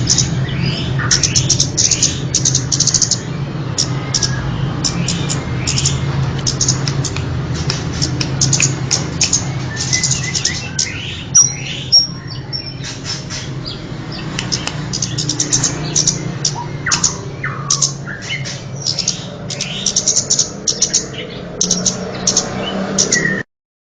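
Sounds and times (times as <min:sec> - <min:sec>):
high bird chirps: 0:00.0 - 0:23.4.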